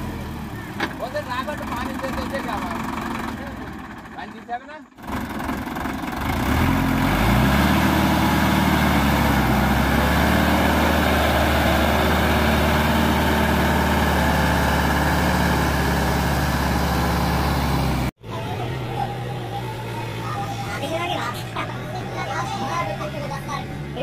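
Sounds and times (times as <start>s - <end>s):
tractor diesel engine revving: 0.0s - 20.5s.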